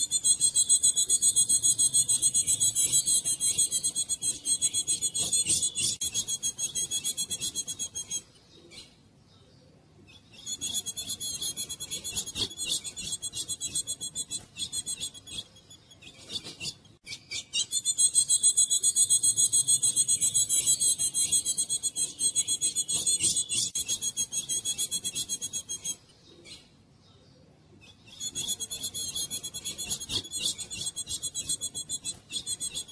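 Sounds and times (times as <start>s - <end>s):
bird singing scratchy high notes: 0.0s - 8.4s, 10.2s - 26.1s, 27.9s - 32.9s.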